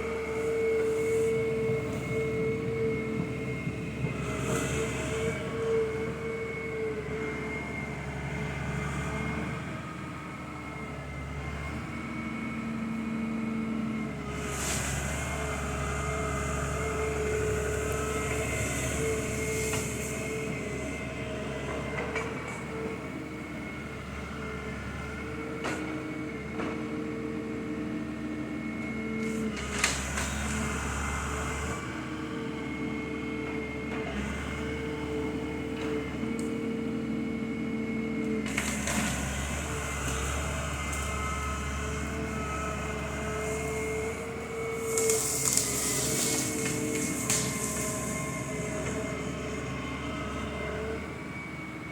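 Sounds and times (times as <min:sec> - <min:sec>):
diesel machine drone: 0:00.0 - 0:51.9.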